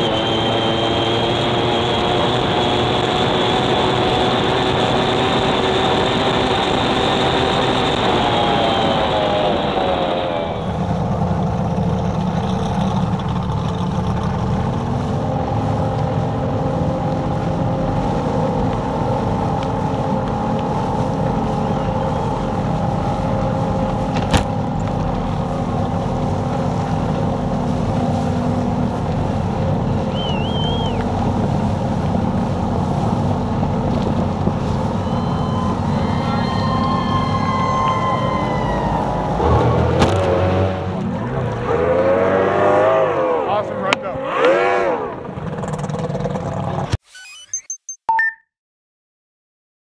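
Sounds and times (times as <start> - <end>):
outboard racing engine: 0.0 - 47.0.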